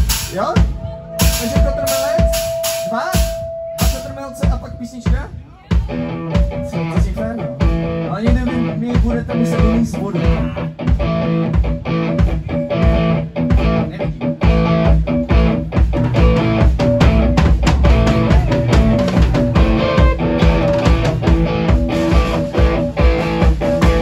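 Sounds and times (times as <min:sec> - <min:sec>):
electric guitars: 0:00.0 - 0:24.0
rock band playing: 0:00.0 - 0:24.0.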